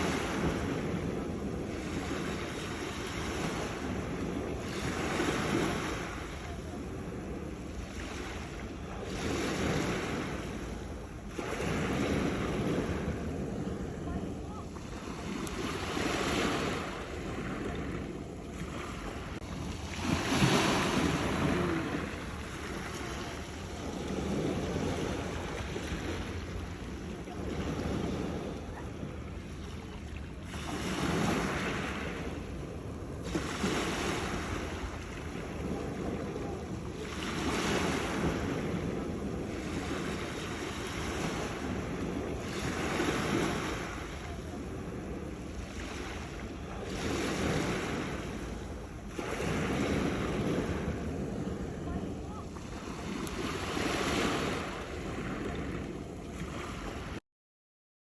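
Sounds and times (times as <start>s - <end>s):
wash of surf: 0.0s - 57.2s
waves breaking against rocks: 0.0s - 57.2s
wind buffeting microphone: 0.0s - 57.2s.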